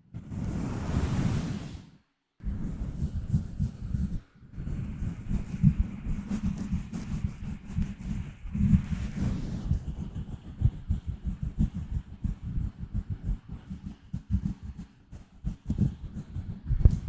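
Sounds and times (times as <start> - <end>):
fingers scratching a microphone: 2.5 - 17.0.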